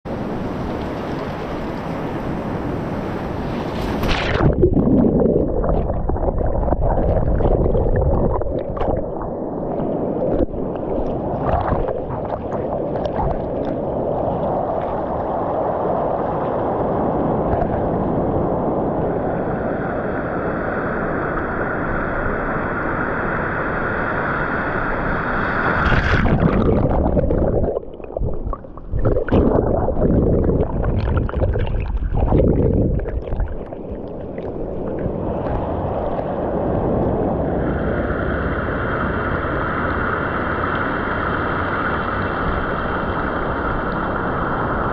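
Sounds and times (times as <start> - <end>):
waves heard underwater: 0.1 - 44.9.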